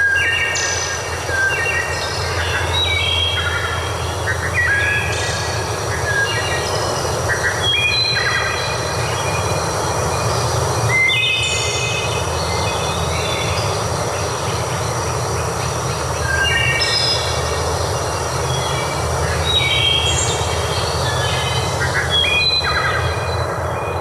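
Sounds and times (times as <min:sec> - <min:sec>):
birds singing: 0:00.0 - 0:24.0.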